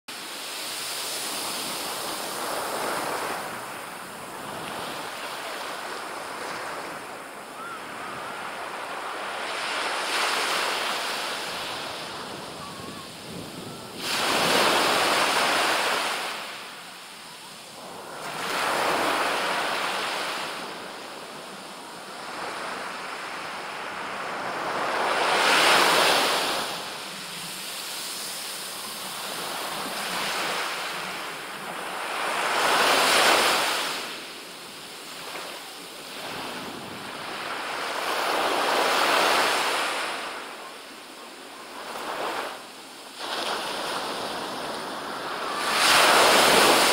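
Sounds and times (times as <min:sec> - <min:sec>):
surf breaking on a sandy beach: 0:00.1 - 0:46.9.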